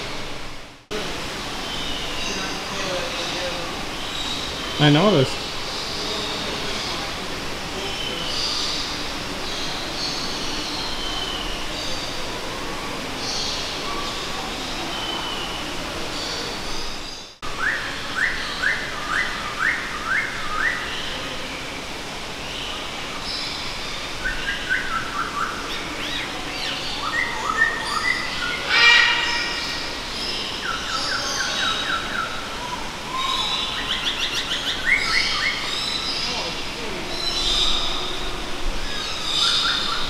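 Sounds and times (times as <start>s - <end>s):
birds calling and chirping: 1.2s - 40.0s.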